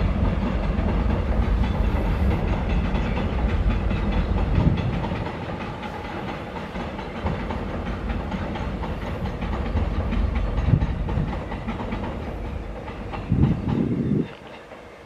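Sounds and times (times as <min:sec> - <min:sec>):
electric train running on track: 0:00.0 - 0:15.0
wheels clicking over rails: 0:00.0 - 0:15.0.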